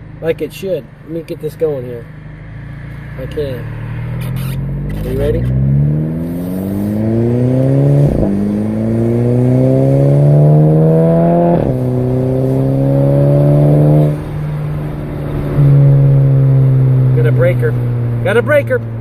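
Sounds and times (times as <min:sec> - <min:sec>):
turbocharged car engine accelerating: 0:01.7 - 0:19.0.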